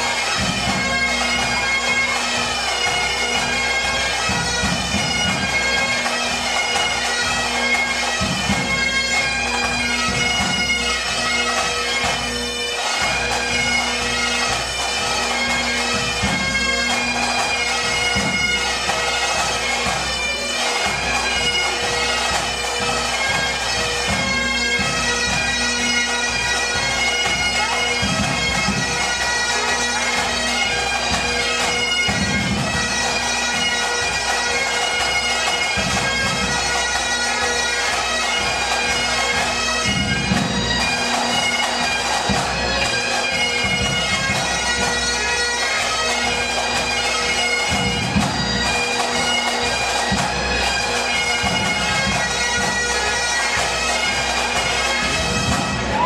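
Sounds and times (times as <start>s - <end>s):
bagpipes playing: 0.0s - 56.0s.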